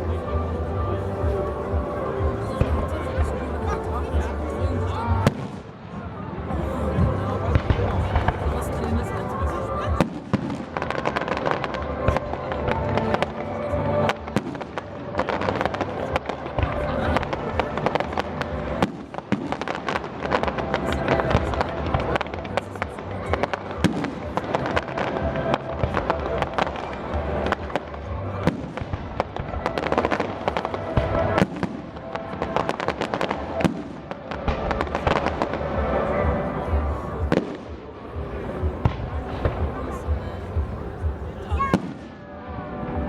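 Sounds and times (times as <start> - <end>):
music playing: 0.0 - 43.0
fireworks bangs and crackling: 0.1 - 12.3, 18.8 - 43.0.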